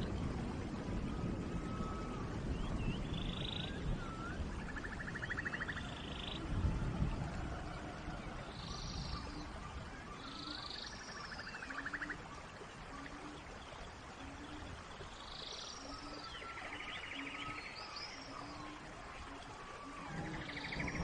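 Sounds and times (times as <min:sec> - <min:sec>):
rain hiss: 0:00.0 - 0:21.0
whistled bird calls: 0:01.1 - 0:06.6, 0:07.4 - 0:12.3, 0:12.9 - 0:21.0.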